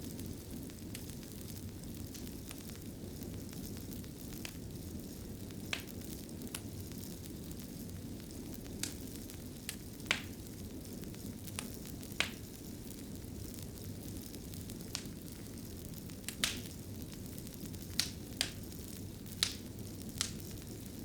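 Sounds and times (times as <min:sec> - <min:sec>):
fireplace fire crackling: 0:00.0 - 0:21.0
sharp pops of fire: 0:00.0 - 0:21.0.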